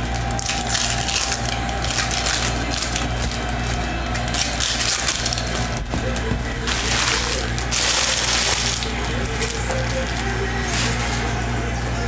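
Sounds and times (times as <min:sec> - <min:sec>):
papery rustling of cards: 0:00.0 - 0:11.6
steady low hum: 0:00.0 - 0:12.0.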